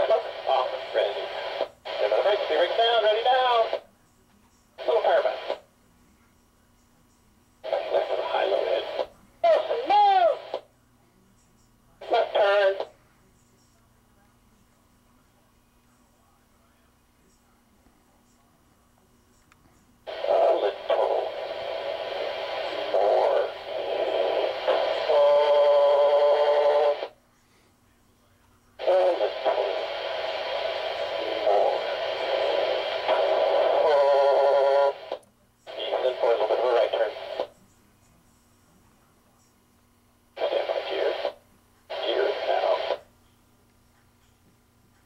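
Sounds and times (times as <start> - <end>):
noisy radio transmission: 0.0 - 43.5
steady humming tone: 0.0 - 45.0.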